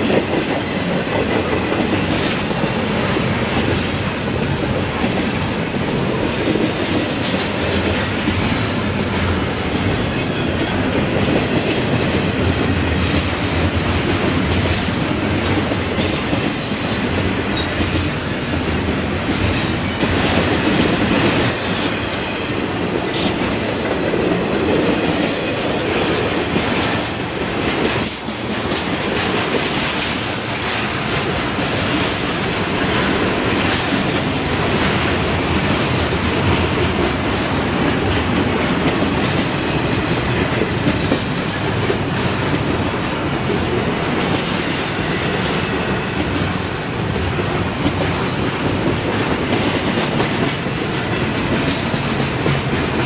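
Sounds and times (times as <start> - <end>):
freight train rumbling and rattling: 0.0 - 53.0
wheels clacking over rail joints: 0.0 - 53.0.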